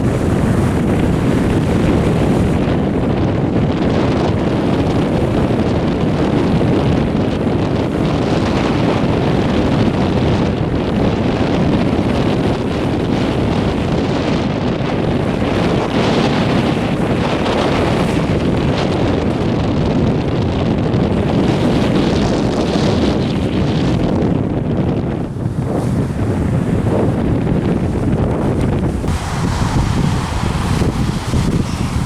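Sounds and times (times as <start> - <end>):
beach surf: 0.0 - 24.0, 25.0 - 32.0
wind buffeting microphone: 0.0 - 32.0.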